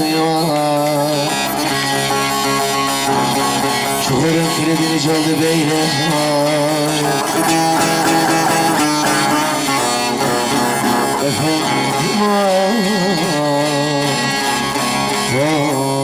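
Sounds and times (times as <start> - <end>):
folk music on stringed instruments: 0.0 - 16.0.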